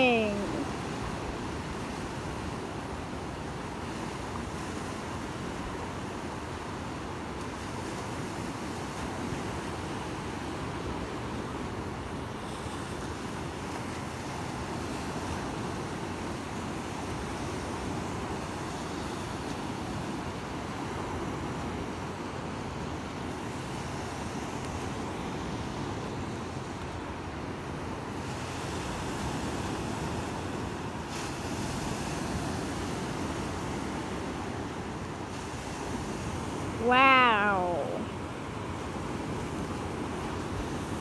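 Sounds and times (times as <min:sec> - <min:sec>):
surf breaking on a beach: 0:00.0 - 0:41.0.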